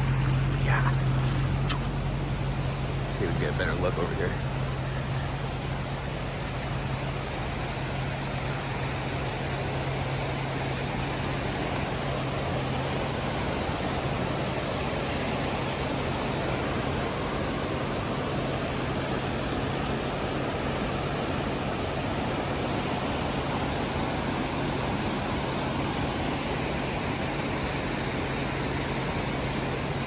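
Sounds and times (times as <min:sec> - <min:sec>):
creek water rushing: 0:00.0 - 0:30.0
steady low hum: 0:00.0 - 0:30.0.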